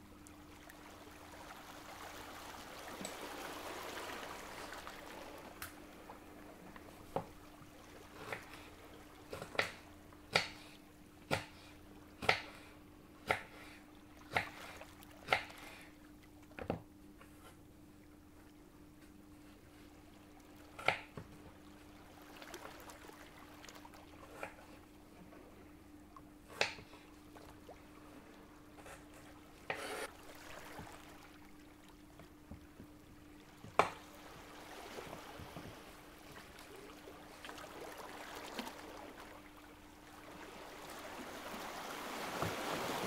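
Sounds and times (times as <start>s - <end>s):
faint low hum: 0.0s - 42.1s.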